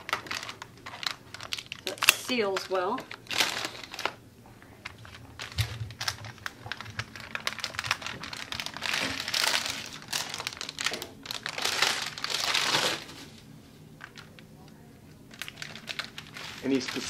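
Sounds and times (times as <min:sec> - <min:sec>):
foil pouch crinkling: 0:00.0 - 0:04.2, 0:04.8 - 0:13.4, 0:14.0 - 0:17.0.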